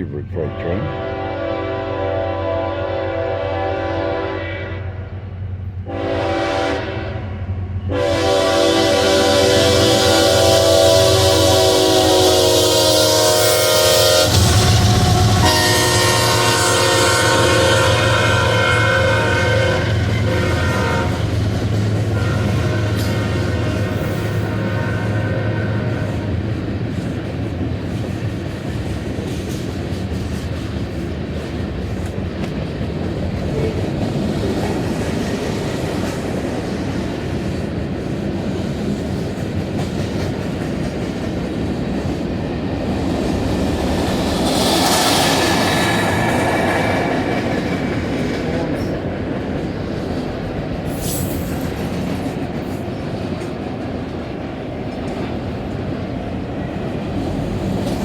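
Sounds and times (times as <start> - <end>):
freight train cars clattering: 7.9 - 58.0.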